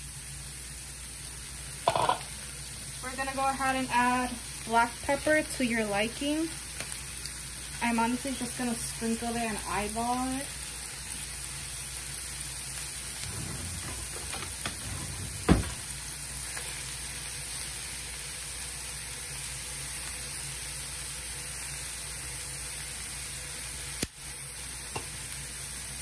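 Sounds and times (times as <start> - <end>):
mushrooms sizzling in a skillet: 0.0 - 26.0.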